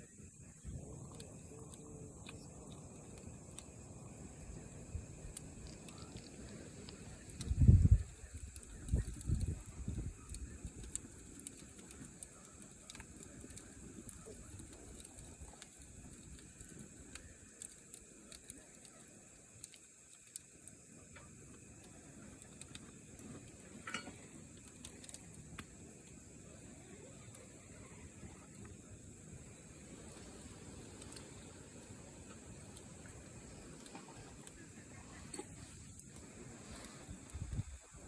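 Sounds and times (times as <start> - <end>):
fire hiss: 0.0 - 38.0
wood fire crackling: 0.0 - 38.0.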